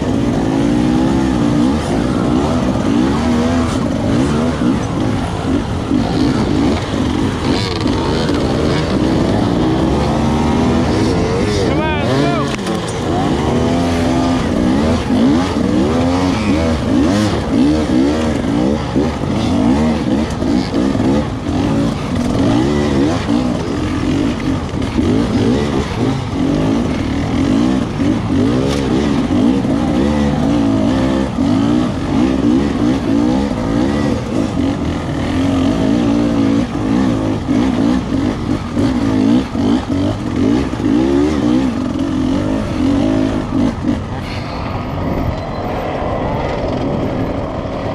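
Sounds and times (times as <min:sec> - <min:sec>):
dirt bike engine revving: 0:00.0 - 0:47.9
other dirt bikes running: 0:00.0 - 0:47.9.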